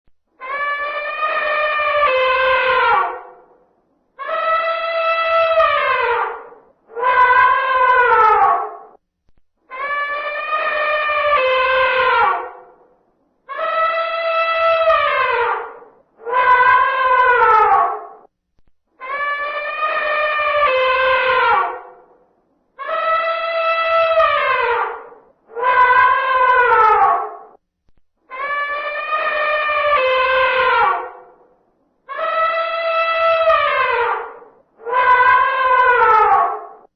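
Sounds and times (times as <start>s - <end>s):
elephant trumpeting: 0.4s - 3.4s, 4.2s - 8.9s, 9.7s - 12.7s, 13.5s - 18.2s, 19.0s - 22.0s, 22.8s - 27.6s, 28.3s - 31.4s, 32.1s - 36.9s.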